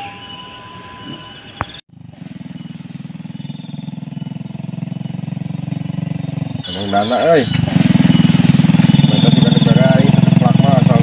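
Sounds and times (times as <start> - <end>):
motorcycle engine running: 1.9 - 11.0.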